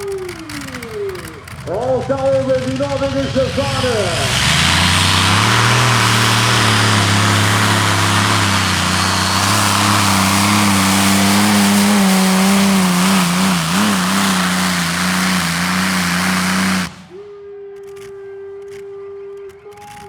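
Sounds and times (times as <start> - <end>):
engines running under full power: 0.0 - 17.2.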